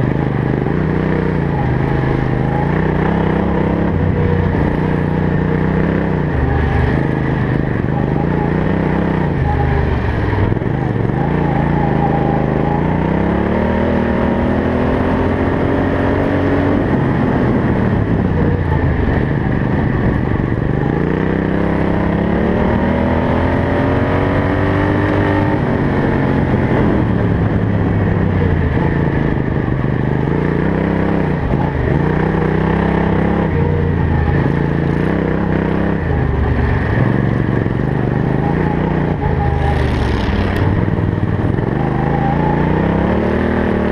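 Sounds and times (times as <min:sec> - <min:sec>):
lawn mower engine racing: 0:00.0 - 0:43.9.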